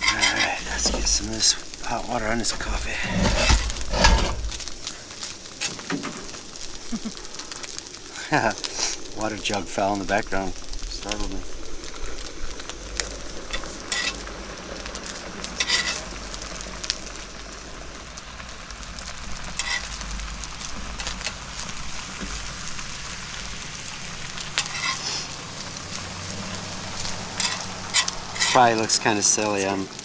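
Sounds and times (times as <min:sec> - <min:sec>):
hot water pouring: 0:00.0 - 0:05.0, 0:08.1 - 0:30.0.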